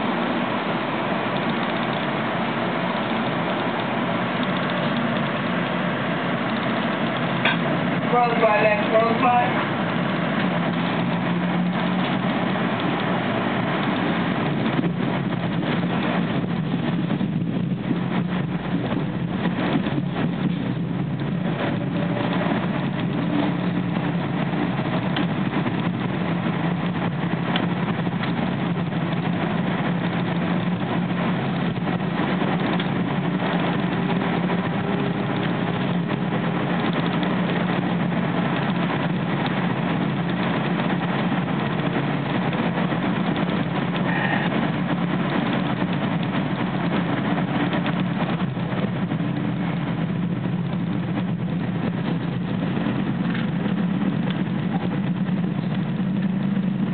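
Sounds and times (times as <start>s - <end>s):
constant low drone: 0.0s - 56.9s
train wheels rolling on rails: 0.0s - 56.9s.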